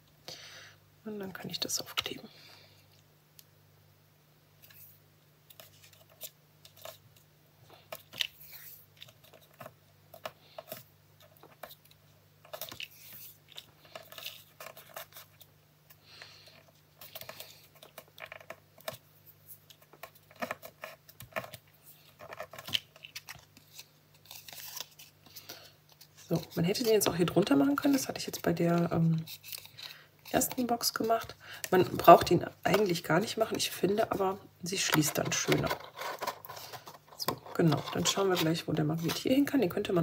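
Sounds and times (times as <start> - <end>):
paper rustling and scraping: 4.6 - 7.2, 7.8 - 11.9, 12.5 - 15.5, 16.4 - 34.2, 34.8 - 39.6.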